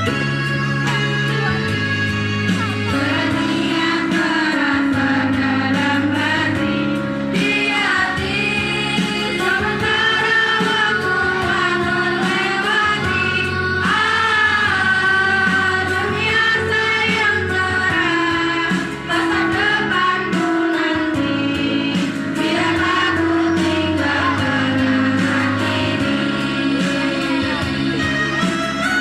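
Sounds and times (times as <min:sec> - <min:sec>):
instrumental accompaniment: 0:00.0 - 0:29.0
children's choir singing: 0:02.8 - 0:28.6.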